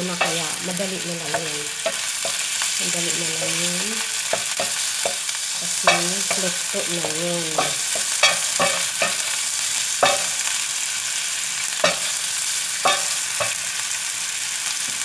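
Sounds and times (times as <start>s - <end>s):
meatballs sizzling in oil: 0.0s - 15.0s.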